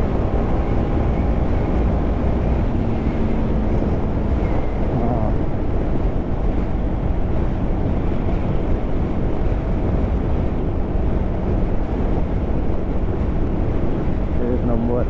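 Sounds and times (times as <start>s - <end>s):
motorcycle engine cruising: 0.0s - 14.8s
wind rushing over microphone: 0.0s - 15.0s.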